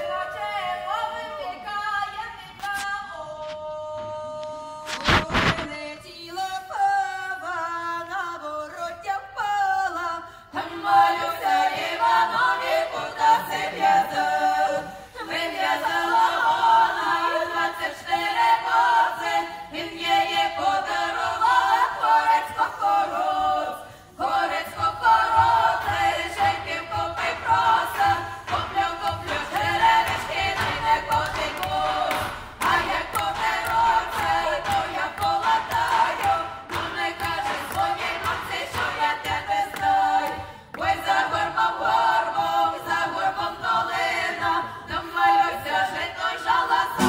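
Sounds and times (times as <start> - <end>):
women singing a cappella: 0.0 - 47.0.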